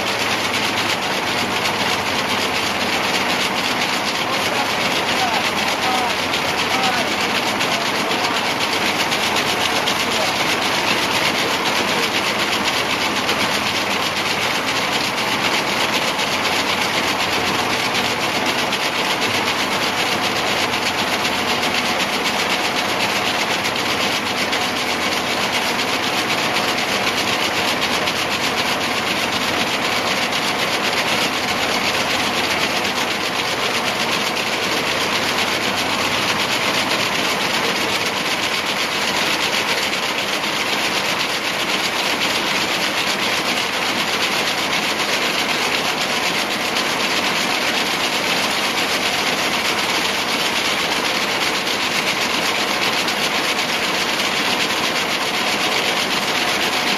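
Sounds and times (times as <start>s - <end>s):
braiding machine whirring: 0.0s - 56.9s.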